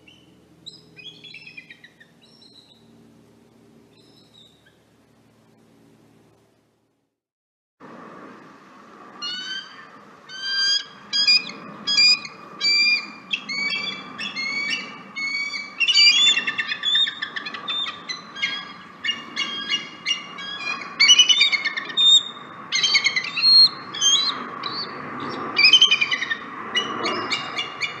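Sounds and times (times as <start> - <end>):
eagle piping chirps: 0.0 - 2.9, 3.9 - 4.8, 9.2 - 28.0.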